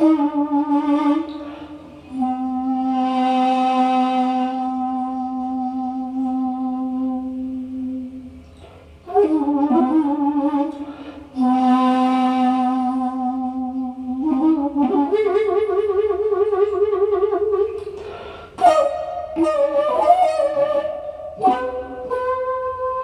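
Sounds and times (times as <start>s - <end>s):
bamboo flute slow melody: 0.0s - 23.0s.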